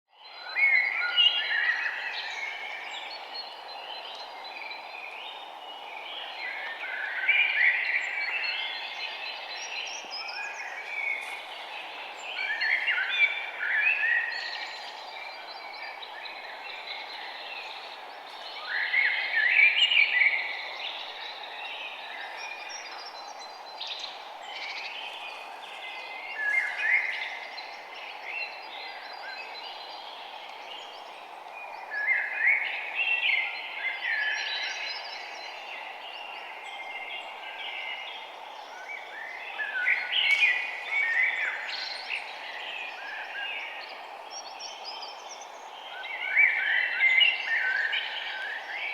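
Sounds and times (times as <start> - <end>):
birds singing: 0.1 - 48.9
steady background hiss: 0.4 - 48.9.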